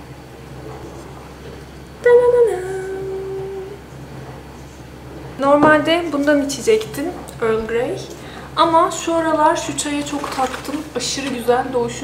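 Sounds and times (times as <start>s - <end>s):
faint low room hum: 0.0s - 12.0s.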